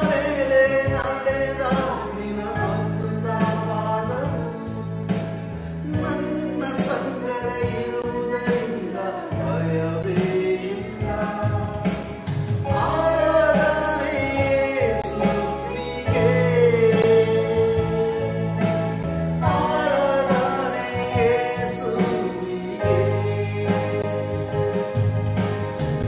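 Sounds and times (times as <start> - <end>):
man singing worship song: 0.0 - 25.4
instrumental backing: 0.0 - 26.0.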